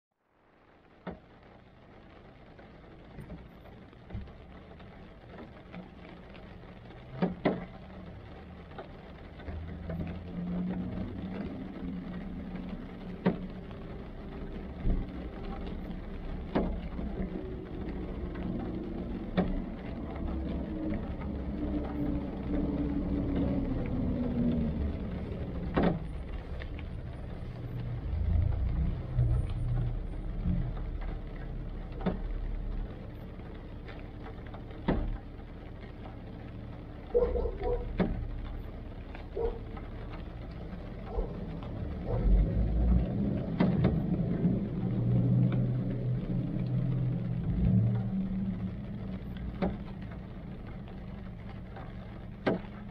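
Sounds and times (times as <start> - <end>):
rain hissing on car: 0.1 - 52.9
raindrops tapping on roof: 0.2 - 52.9
car engine idling: 2.9 - 52.9
nearby traffic: 6.2 - 52.9.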